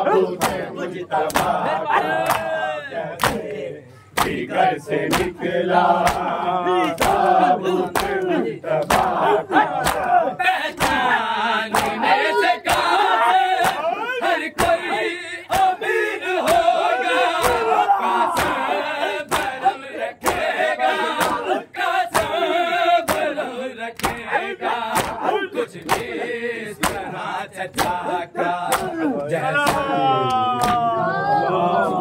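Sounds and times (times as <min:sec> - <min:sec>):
rhythmic chest-beating strikes: 0:00.0 - 0:30.0
crowd of men chanting: 0:00.0 - 0:32.0.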